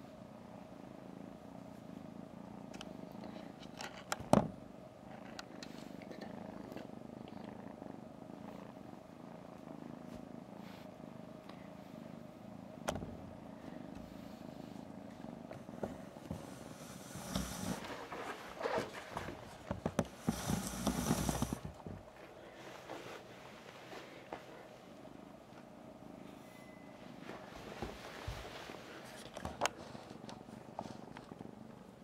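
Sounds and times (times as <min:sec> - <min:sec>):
kitten purring: 0:00.0 - 0:32.0.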